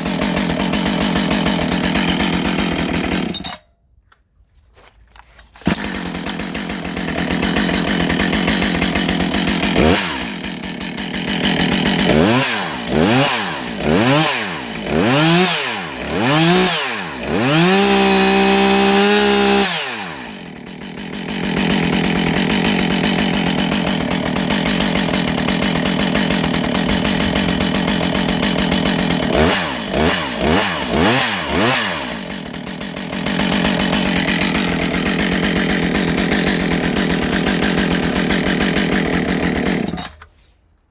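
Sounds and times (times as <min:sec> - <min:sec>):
chainsaw engine revving and idling: 0:00.0 - 0:03.6, 0:05.6 - 0:40.3.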